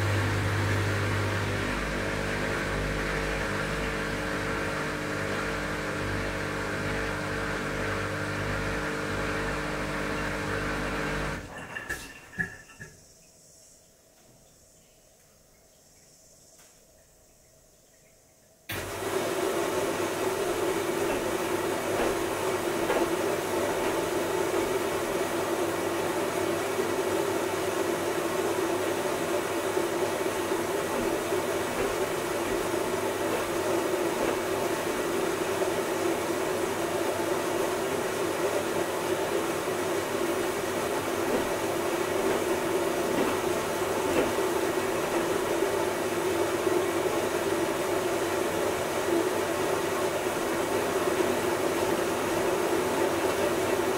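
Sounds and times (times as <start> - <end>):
washing machine running: 0.0 - 12.9, 18.7 - 53.9.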